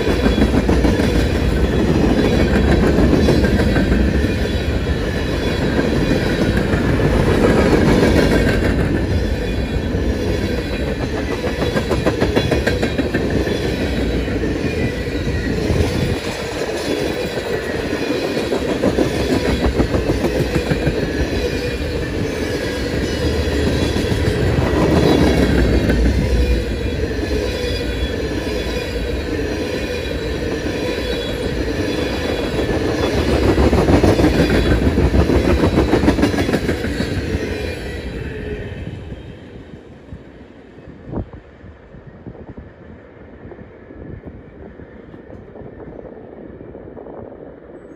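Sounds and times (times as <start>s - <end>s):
train wheels clacking on rails: 0.0s - 38.5s.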